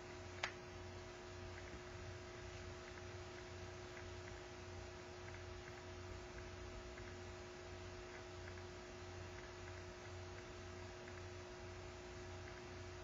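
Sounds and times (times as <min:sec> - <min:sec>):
electrical hum with low throb: 0:00.0 - 0:13.0
steady hiss: 0:00.0 - 0:13.0.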